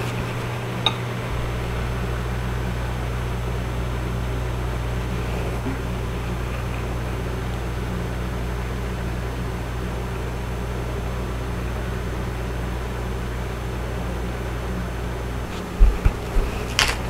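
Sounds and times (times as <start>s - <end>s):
electric burner humming: 0.0s - 17.0s.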